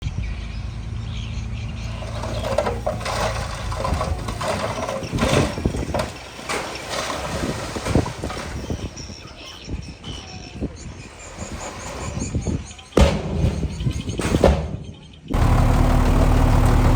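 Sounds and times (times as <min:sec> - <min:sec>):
diesel machinery humming: 0:00.0 - 0:16.9
metallic clanks and rattles: 0:01.8 - 0:16.9.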